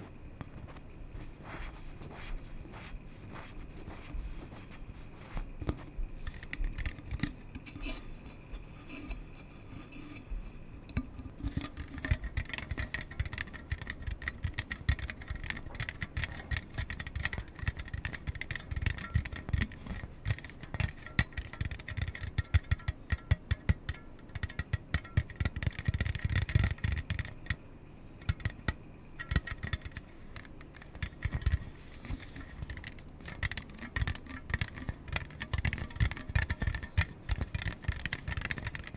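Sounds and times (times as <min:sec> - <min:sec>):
rapid tapping and scratching: 0:00.0 - 0:10.5, 0:11.2 - 0:27.6, 0:28.2 - 0:38.9.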